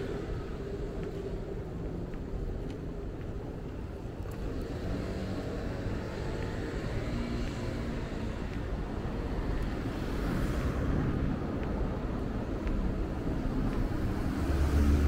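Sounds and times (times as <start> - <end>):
cars passing with low rumble: 0.0 - 15.0.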